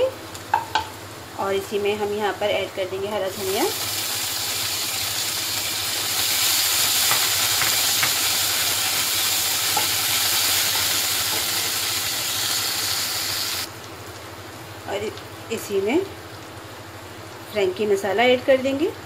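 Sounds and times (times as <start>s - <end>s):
oil sizzling in a wok: 0.0s - 19.0s.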